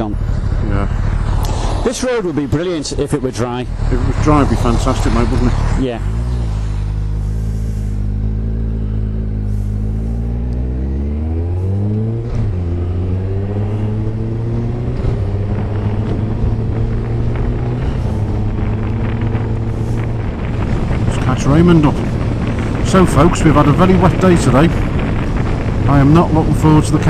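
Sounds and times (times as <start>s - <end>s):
motorcycle engine revving: 0.0s - 27.0s
tyres on wet road: 0.0s - 27.0s.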